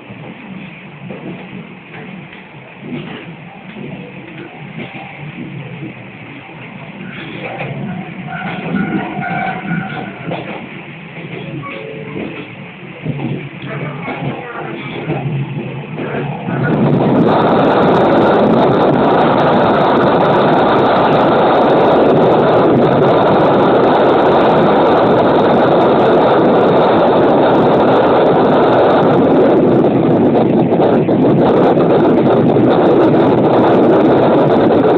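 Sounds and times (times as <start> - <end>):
railcar running noise: 0.0 - 34.9
wind rushing over microphone: 0.0 - 34.9.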